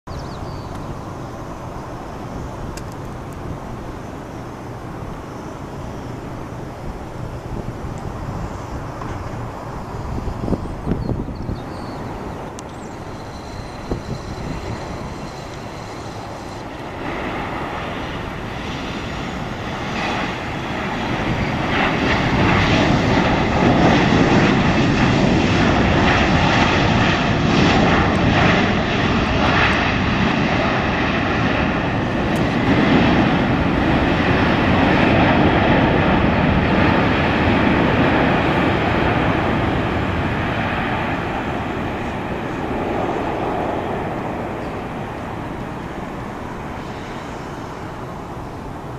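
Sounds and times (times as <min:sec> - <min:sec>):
jet engine whine: 0:00.0 - 0:48.9.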